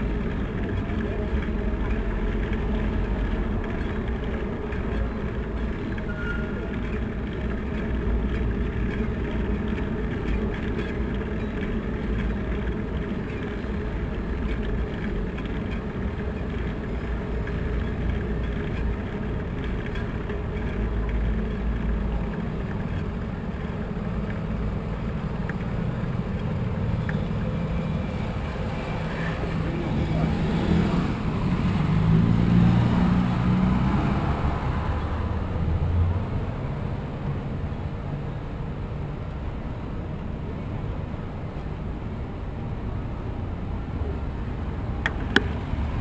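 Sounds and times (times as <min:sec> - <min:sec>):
bicycle tyre and wind noise: 0:00.0 - 0:41.2.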